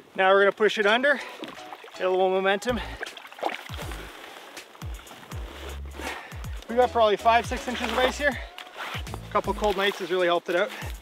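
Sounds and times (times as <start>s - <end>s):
water and slush sloshing: 0.7s - 11.0s
background music with deep bass: 1.4s - 11.0s.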